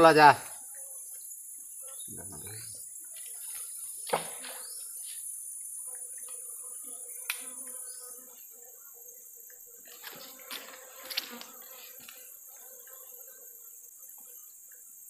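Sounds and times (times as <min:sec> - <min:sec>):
forest insects chorus: 0:00.0 - 0:15.0.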